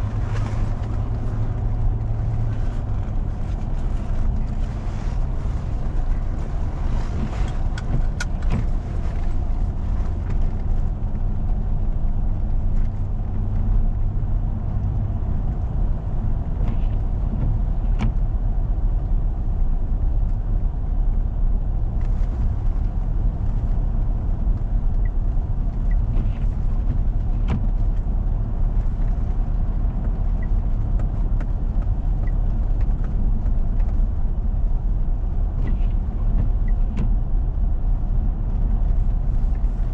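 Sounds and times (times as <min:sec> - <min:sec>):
vehicle rumbling on snowy road: 0:00.0 - 0:39.9.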